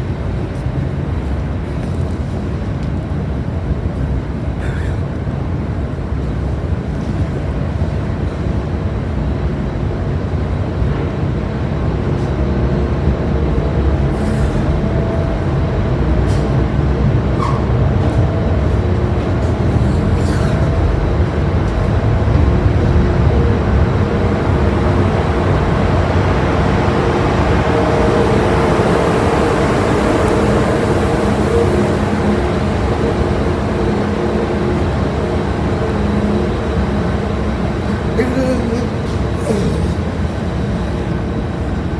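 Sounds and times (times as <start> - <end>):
ferry engines rumbling: 0.0 - 41.9
steady machinery hums: 0.0 - 41.9.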